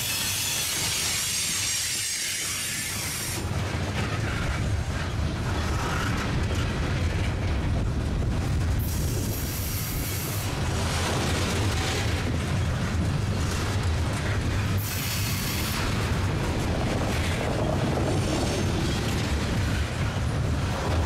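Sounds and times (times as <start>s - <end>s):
steel wheels rumbling on rails: 0.0s - 21.0s.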